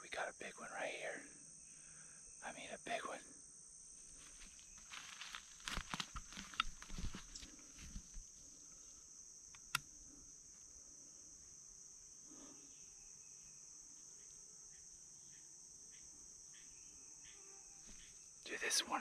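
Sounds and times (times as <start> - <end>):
high insect chirring: 0.4 - 19.0.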